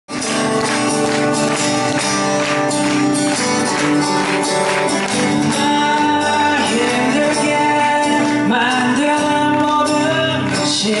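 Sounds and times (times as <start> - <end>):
acoustic guitar strumming: 0.1 - 11.0.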